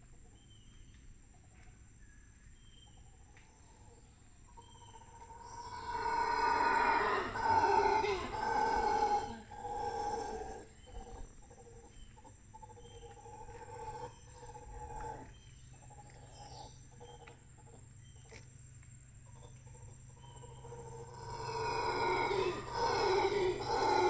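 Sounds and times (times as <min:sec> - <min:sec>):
howler monkeys roaring faintly: 0:03.5 - 0:18.3, 0:19.2 - 0:24.0.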